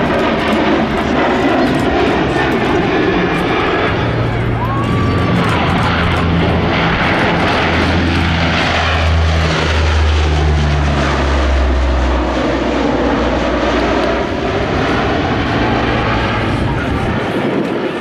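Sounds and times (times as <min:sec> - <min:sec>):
turboprop aircraft droning past: 0:00.0 - 0:18.0.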